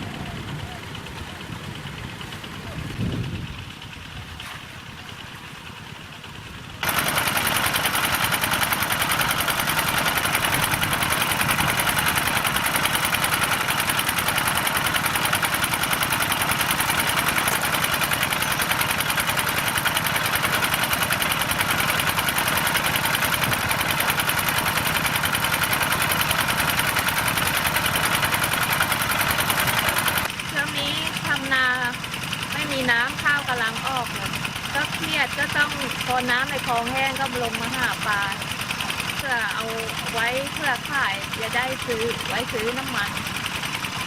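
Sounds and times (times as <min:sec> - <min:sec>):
small engine chugging: 0:00.0 - 0:44.0.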